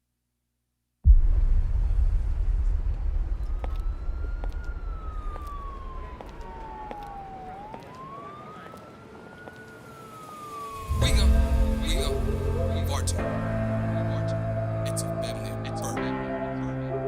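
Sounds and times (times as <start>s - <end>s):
low traffic rumble: 1.1s - 17.0s
siren wailing: 3.3s - 17.0s.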